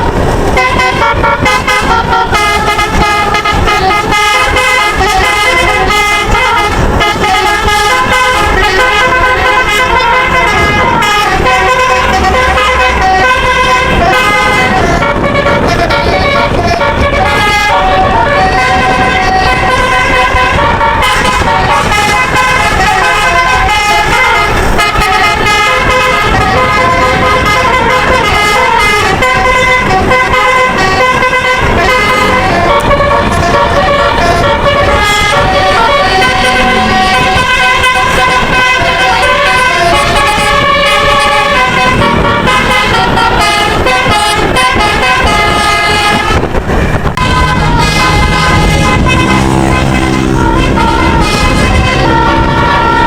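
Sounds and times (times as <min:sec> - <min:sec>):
bus engine noise: 0:00.0 - 0:53.0
musical air horn tune: 0:00.0 - 0:53.0.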